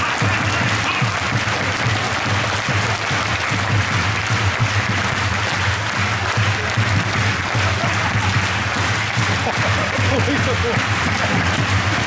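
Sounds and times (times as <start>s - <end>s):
stadium crowd clapping: 0.0s - 12.0s.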